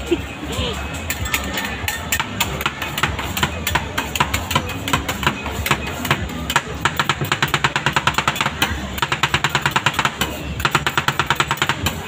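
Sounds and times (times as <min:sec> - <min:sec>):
metal spatulas clacking on steel: 0:01.0 - 0:12.0.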